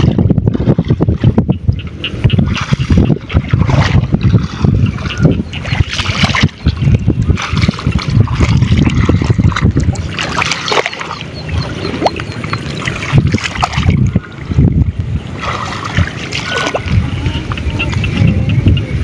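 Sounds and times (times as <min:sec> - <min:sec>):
sloshing through muddy water: 0:00.0 - 0:19.0.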